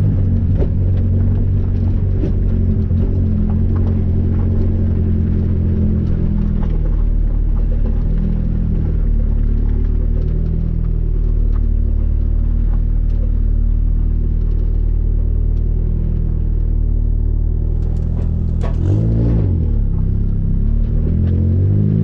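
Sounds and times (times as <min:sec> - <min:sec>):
car engine low drone: 0:00.0 - 0:22.0.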